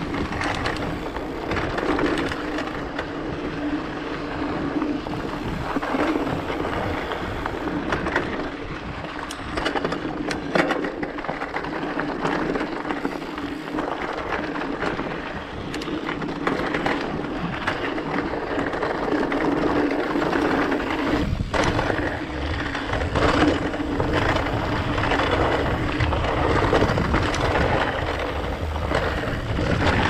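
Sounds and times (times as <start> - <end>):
bike knocks and rattles: 0.0 - 30.0
bike tyre and drivetrain noise: 0.0 - 30.0.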